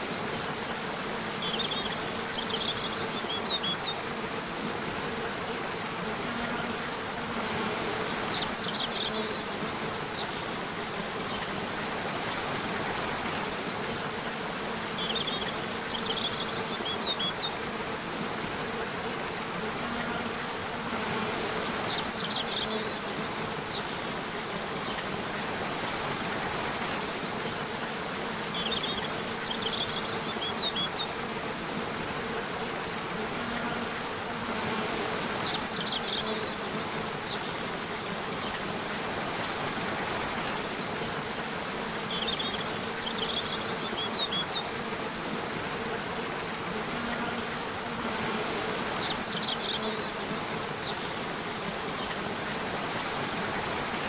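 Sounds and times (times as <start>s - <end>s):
bees buzzing: 0.0s - 54.0s
running water rushing: 0.0s - 54.0s.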